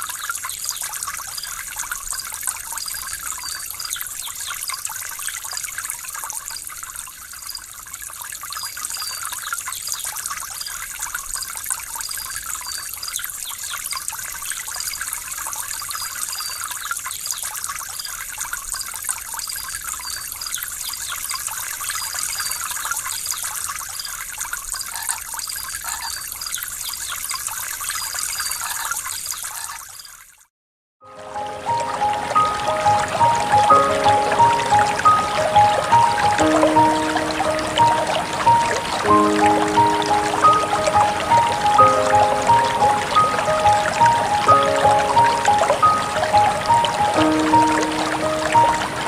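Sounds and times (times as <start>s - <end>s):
water trickling and splashing: 0.0s - 30.5s, 31.1s - 49.0s.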